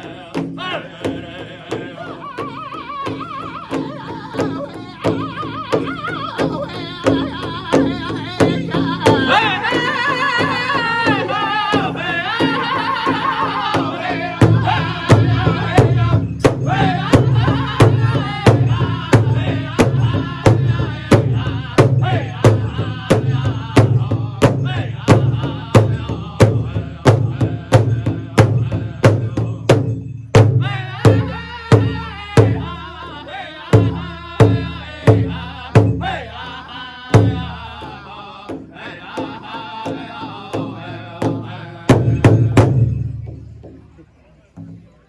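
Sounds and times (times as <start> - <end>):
group chorus singing: 0.0 - 29.8, 30.5 - 43.1
large drum steady beat: 0.0 - 44.9.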